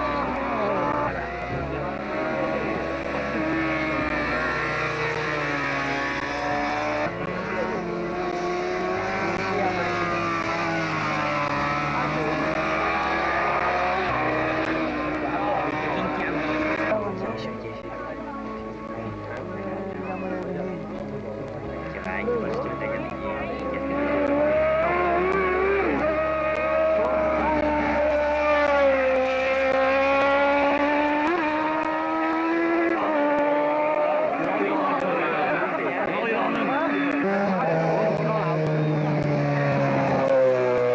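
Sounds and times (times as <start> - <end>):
racing car engines revving: 0.0 - 40.9.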